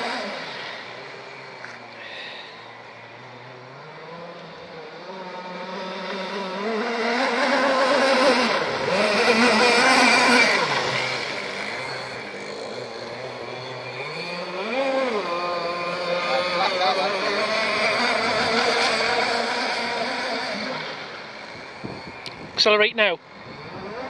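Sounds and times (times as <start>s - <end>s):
racing boat engine passing: 0.0s - 24.0s.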